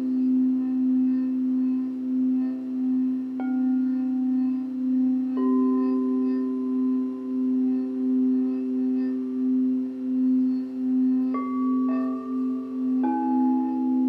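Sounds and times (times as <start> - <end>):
singing bowl low tone: 0.0 - 14.0
singing bowl struck: 0.0 - 14.0.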